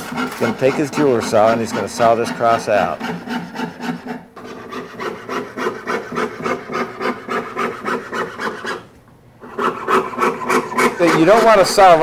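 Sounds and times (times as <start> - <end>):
fine saw blade rasping: 0.0 - 12.0.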